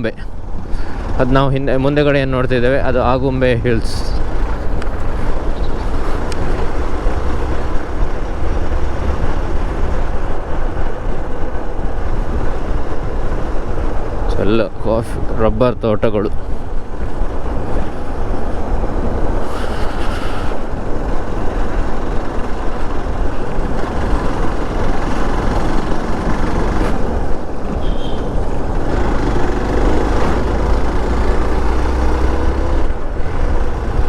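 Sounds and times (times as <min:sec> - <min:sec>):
motorcycle engine and road noise: 0:00.0 - 0:34.0
wind rushing on microphone: 0:00.0 - 0:34.0.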